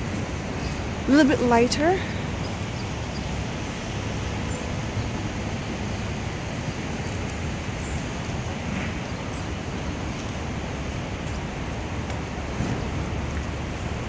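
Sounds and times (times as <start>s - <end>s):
distant traffic rumble: 0.0s - 14.0s
wind noise: 0.0s - 14.0s.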